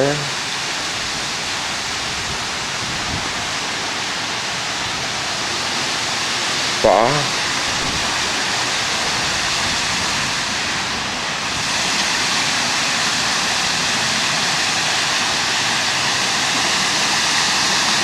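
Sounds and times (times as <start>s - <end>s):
waterfall splashing into pool: 0.0s - 18.0s.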